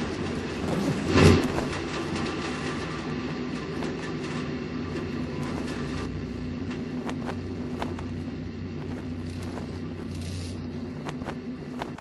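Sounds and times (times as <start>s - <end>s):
low engine-like rumble: 0.0s - 12.0s.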